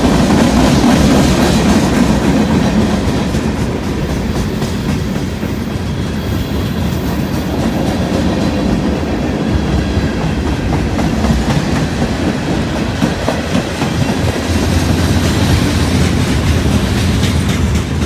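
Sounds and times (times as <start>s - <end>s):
freight train wheels clattering: 0.0s - 18.0s.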